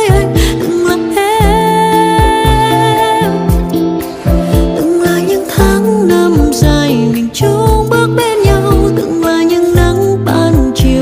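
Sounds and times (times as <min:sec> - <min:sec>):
bass and kick drum beat: 0:00.0 - 0:11.0.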